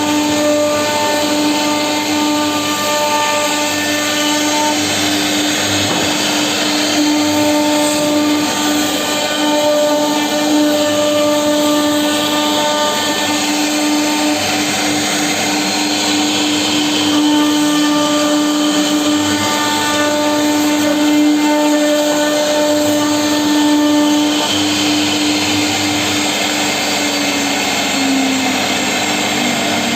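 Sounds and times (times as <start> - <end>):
router cutting wood: 0.0 - 29.9
router spindle high whine: 0.0 - 29.9.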